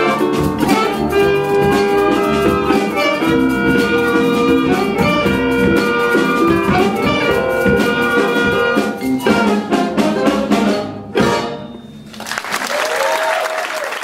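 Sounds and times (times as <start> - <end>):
jazz band playing funk: 0.0 - 12.2.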